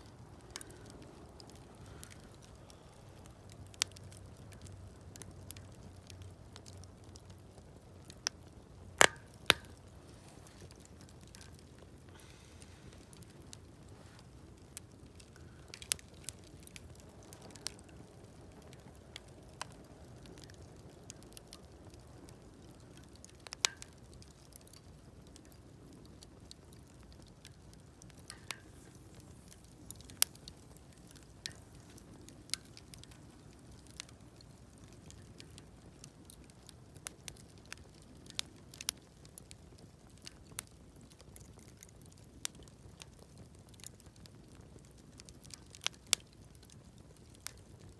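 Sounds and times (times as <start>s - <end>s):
low rush of burning: 0.0s - 38.9s
campfire crackling and popping: 0.0s - 47.9s.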